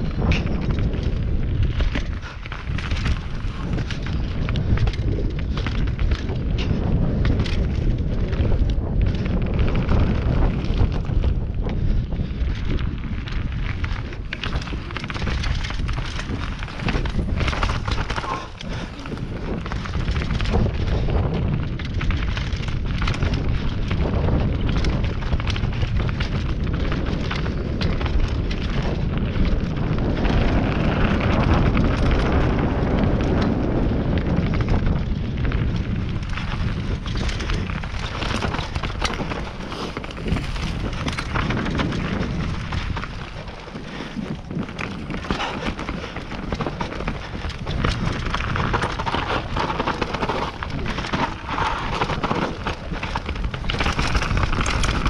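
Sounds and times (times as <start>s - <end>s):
bike rattling: 0.0s - 55.0s
bike tyres crunching on dirt: 0.0s - 55.0s.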